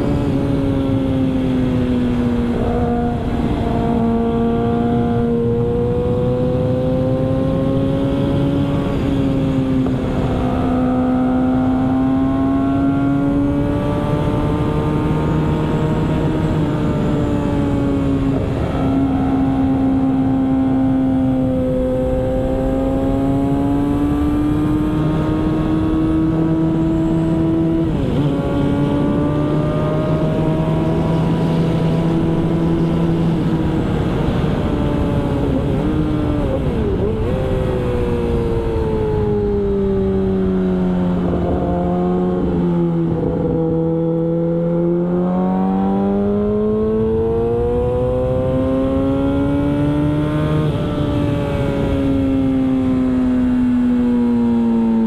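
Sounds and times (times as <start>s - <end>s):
motorcycle engine at high revs: 0.0s - 55.0s
wind noise: 0.0s - 55.0s.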